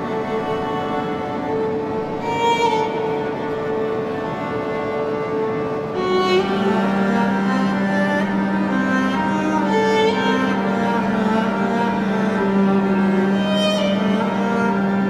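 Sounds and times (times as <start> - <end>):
low sustained string note: 0.0 - 15.0
slow bowed strings: 0.0 - 15.0.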